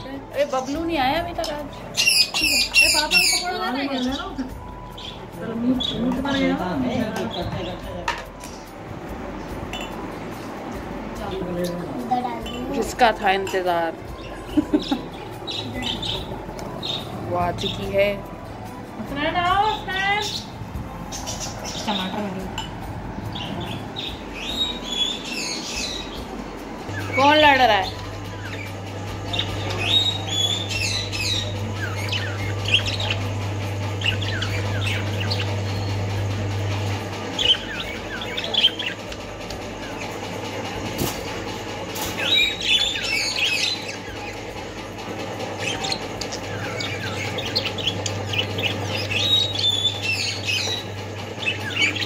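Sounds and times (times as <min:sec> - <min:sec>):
budgerigars chirping and squawking: 0:00.0 - 0:08.7, 0:14.0 - 0:18.2, 0:19.2 - 0:26.3, 0:26.9 - 0:52.0
steady low hum: 0:00.0 - 0:52.0.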